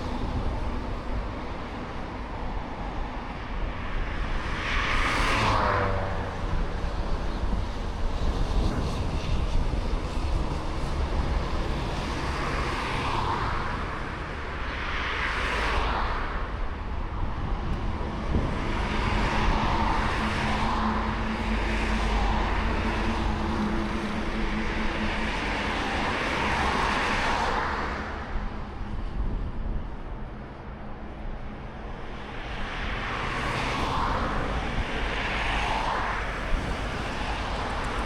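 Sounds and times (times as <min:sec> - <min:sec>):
distant engine hum: 0:00.0 - 0:38.0
wind rumbling on microphone: 0:00.0 - 0:38.0.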